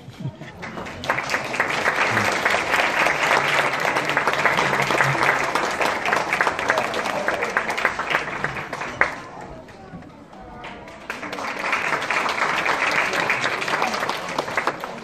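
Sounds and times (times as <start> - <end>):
audience applauding: 0.0 - 9.8, 10.4 - 15.0.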